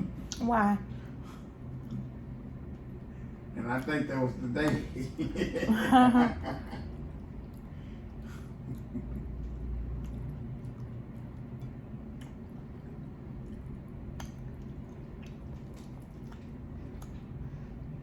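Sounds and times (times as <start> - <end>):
chewing and wet mouth sounds: 0.1 - 4.9, 6.8 - 18.0.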